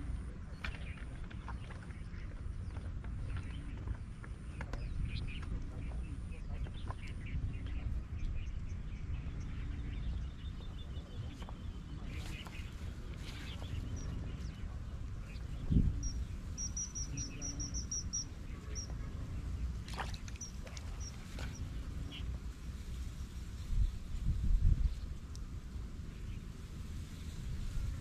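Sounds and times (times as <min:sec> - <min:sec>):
songbird chirping: 0:00.0 - 0:28.0
wind rumble on microphone: 0:00.0 - 0:28.0.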